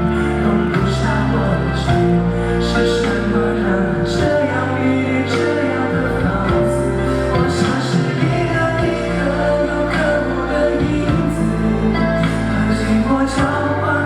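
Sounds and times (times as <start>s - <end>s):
person singing: 0.0s - 14.0s
pop ballad backing music: 0.0s - 14.0s.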